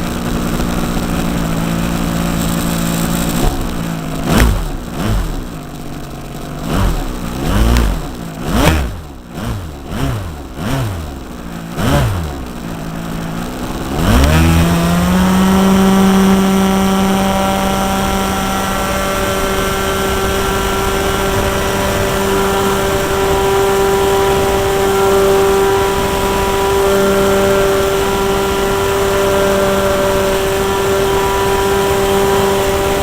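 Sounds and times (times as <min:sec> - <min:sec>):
model plane engine revving: 0:00.0 - 0:33.0.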